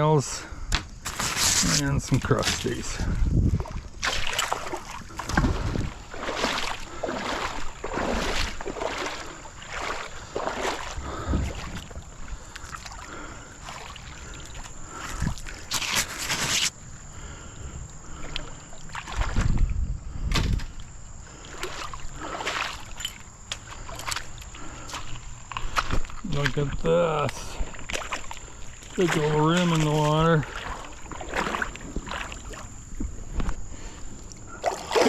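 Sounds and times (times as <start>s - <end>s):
paddle strokes splashing in water: 1.0s - 16.7s, 18.2s - 19.7s, 21.3s - 26.2s, 27.3s - 35.0s.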